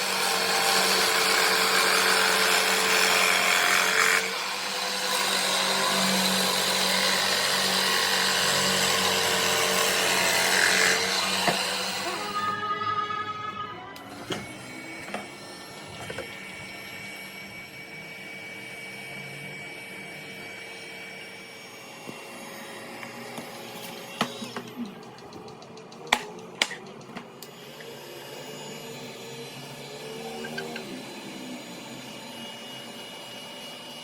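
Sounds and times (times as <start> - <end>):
power tool motor whirring: 0.0 - 12.6, 13.9 - 25.0, 26.8 - 34.0.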